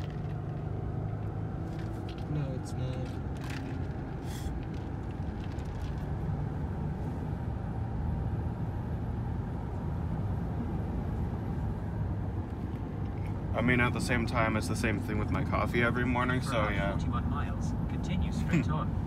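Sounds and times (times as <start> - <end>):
engine and road noise in cabin: 0.0 - 19.0.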